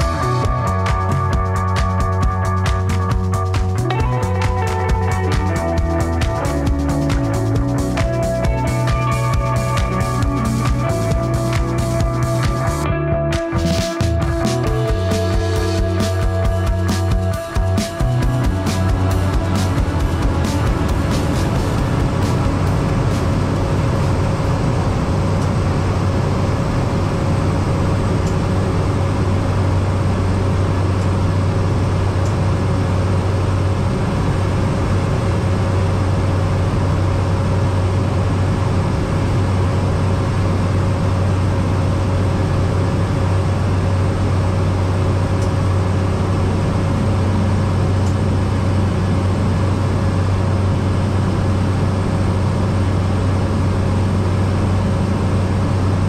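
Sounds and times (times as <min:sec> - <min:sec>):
turboprop engine drone: 0:00.0 - 0:56.0.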